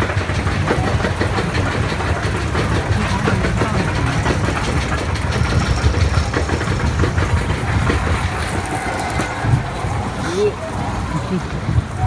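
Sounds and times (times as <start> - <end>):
roller coaster rumble and rattle: 0.0 - 12.0.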